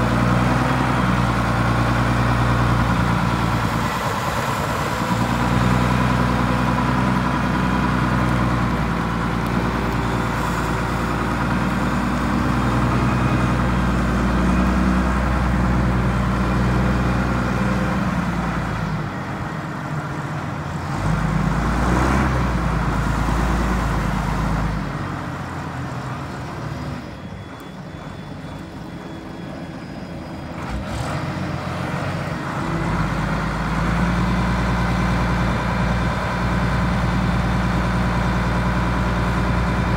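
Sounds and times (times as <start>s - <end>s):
forklift diesel engine running: 0.0s - 39.9s.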